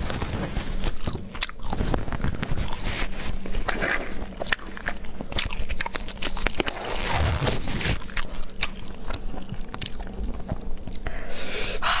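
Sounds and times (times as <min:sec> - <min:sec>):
close chewing and mouth sounds: 0:00.0 - 0:12.0.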